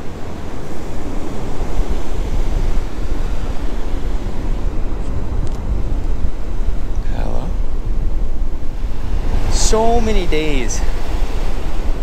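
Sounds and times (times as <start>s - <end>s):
ocean surf washing in: 0.0s - 12.0s
wind buffeting microphone: 0.0s - 12.0s.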